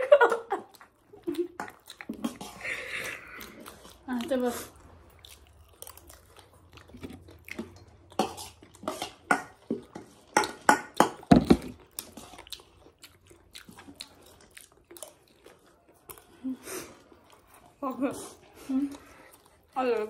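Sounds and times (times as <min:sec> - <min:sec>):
wet chewing and mouth clicks: 0:00.3 - 0:20.0.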